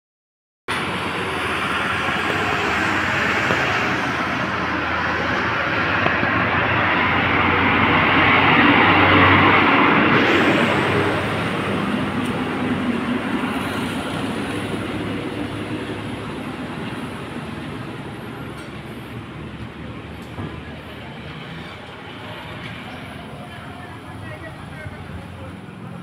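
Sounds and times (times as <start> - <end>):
vehicle passing rumble: 0.7 - 26.0.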